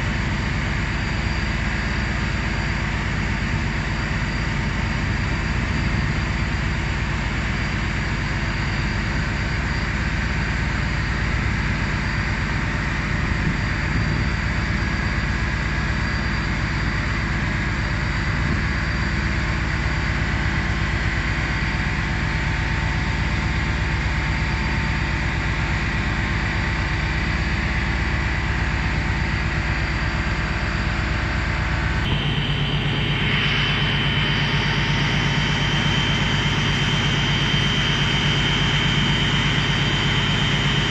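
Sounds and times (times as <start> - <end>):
steady machine whine: 0.0 - 40.9
machinery humming: 0.1 - 40.9.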